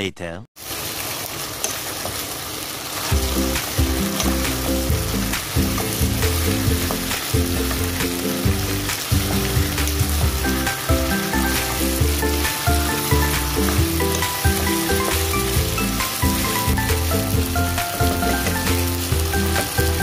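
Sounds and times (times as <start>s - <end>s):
chicken sizzling in a frying pan: 0.6s - 20.0s
background music with bass line: 3.2s - 20.0s.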